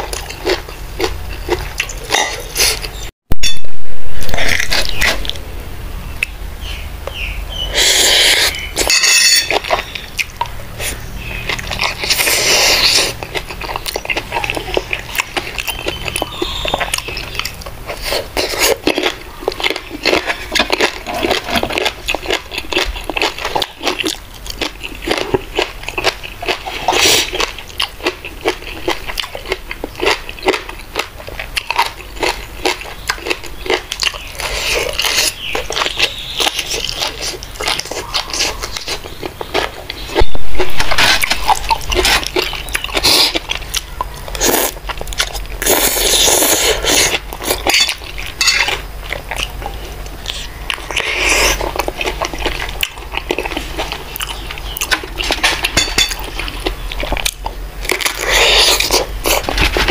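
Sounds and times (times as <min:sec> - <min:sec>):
person chewing and crunching: 0:00.0 - 0:03.1, 0:04.2 - 0:05.5, 0:06.2 - 0:59.9.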